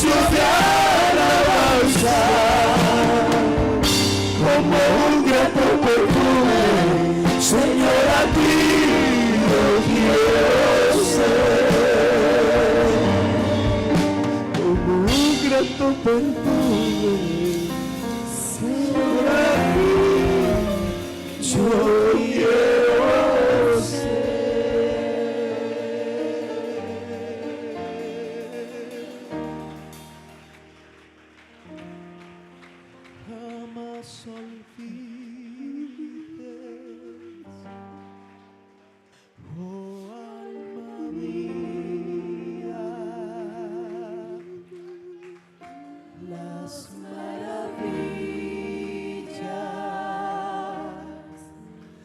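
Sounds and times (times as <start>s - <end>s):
held worship music chords: 0.0s - 31.0s, 32.2s - 52.0s.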